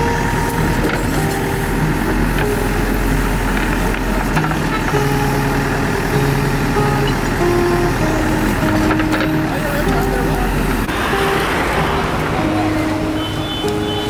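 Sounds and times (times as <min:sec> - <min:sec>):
diesel engine running: 0:00.0 - 0:14.0
music with held notes: 0:00.0 - 0:14.0.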